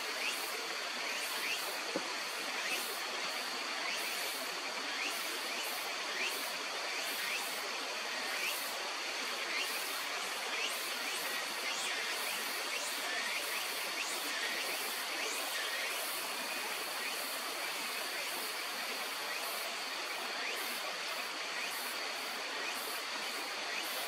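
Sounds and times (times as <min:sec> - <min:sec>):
flowing water: 0:00.0 - 0:24.0.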